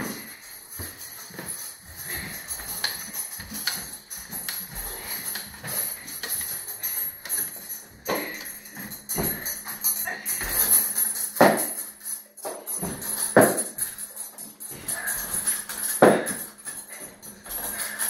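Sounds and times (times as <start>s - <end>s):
metal chains jingling: 0.0s - 18.0s.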